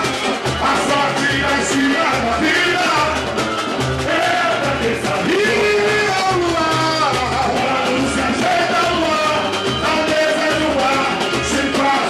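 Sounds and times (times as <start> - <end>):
band with low percussion beat: 0.0 - 12.0
men singing into microphones: 0.0 - 12.0.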